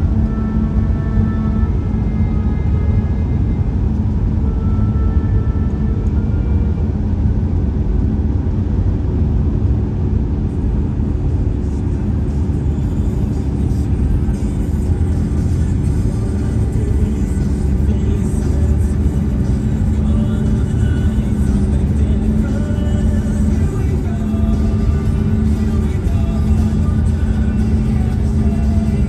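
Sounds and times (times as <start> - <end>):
faint car radio music: 0.0 - 29.0
road and tyre rumble in car: 0.0 - 29.0.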